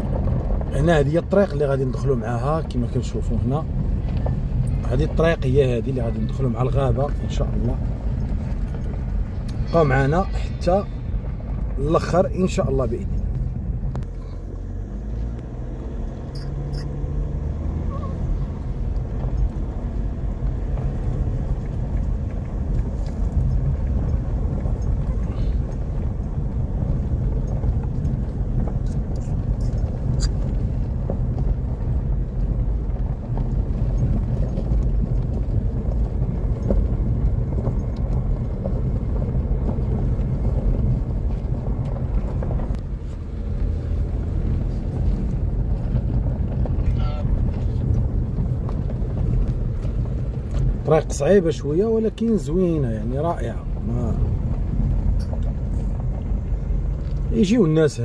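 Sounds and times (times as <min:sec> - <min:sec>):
vehicle rumbling on rough track: 0:00.0 - 0:58.0.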